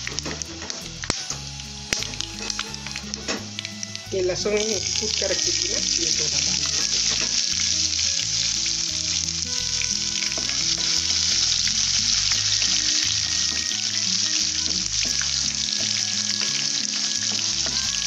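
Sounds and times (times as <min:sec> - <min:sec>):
background music: 0:00.0 - 0:18.0
hot oil sizzling: 0:00.0 - 0:18.0.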